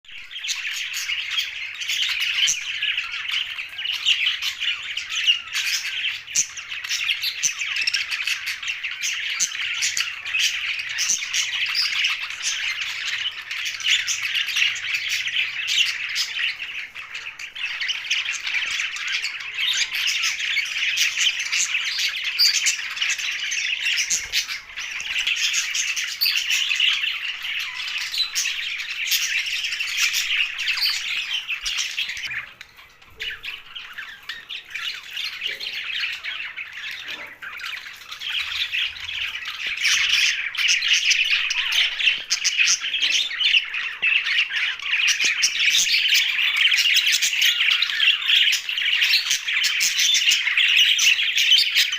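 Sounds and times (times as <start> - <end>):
budgerigars chirping and squawking: 0.1 - 51.9.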